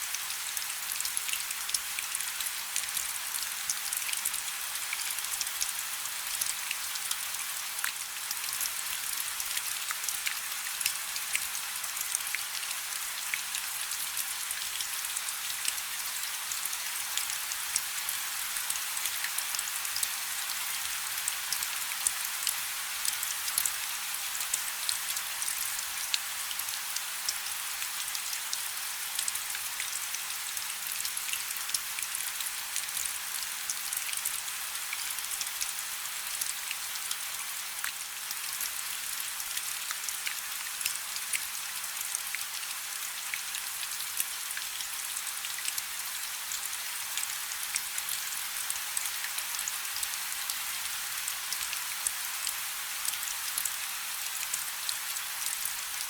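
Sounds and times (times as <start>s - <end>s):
rain falling on a river: 0.0s - 56.0s.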